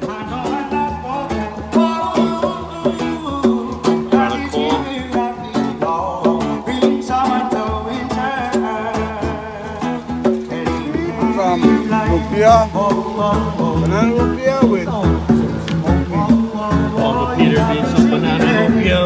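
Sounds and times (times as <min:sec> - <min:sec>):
upbeat music with guitar and singing: 0:00.0 - 0:19.0.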